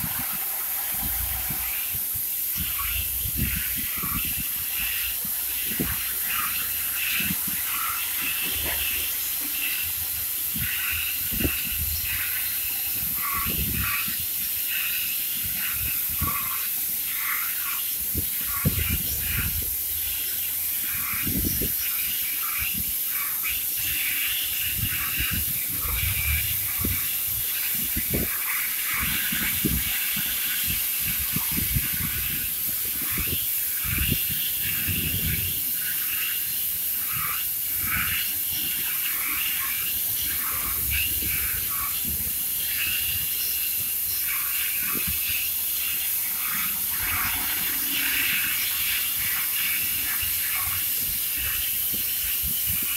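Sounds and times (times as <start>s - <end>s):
cutting machine hiss: 0.0s - 52.9s.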